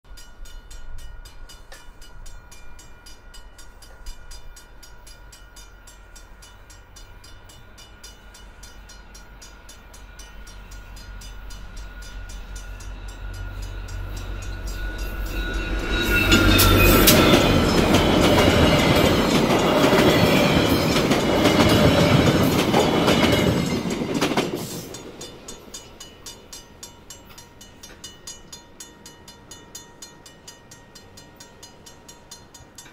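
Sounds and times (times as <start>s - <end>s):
level-crossing bell ringing: 0.2s - 32.9s
diesel locomotive engine: 0.3s - 32.9s.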